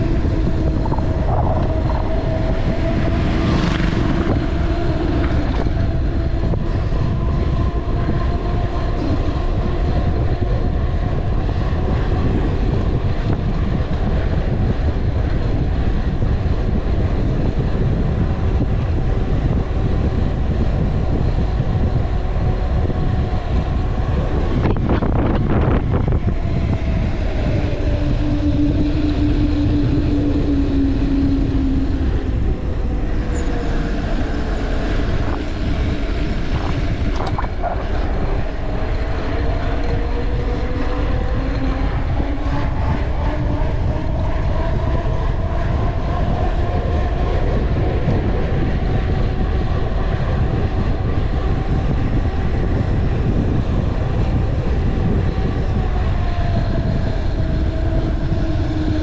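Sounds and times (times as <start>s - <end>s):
bike tyres on asphalt: 0.0s - 59.0s
faint wavering hum: 0.0s - 59.0s
wind rushing over microphone: 0.0s - 59.0s.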